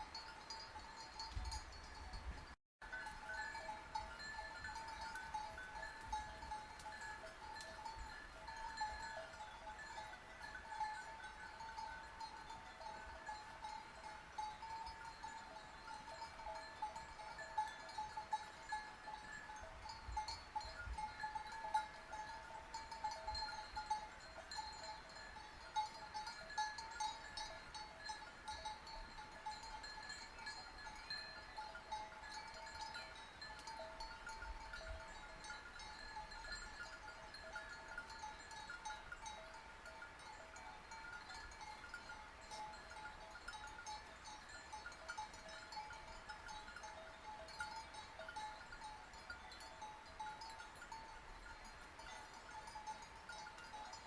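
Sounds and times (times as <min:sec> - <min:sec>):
sheep bells clanking: 0:00.0 - 0:54.0.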